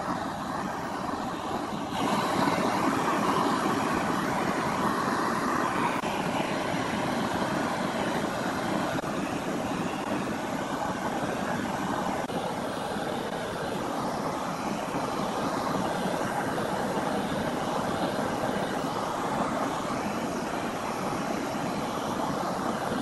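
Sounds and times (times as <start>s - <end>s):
blowtorch flame blowing: 0.0s - 23.0s
lathe running: 0.0s - 23.0s.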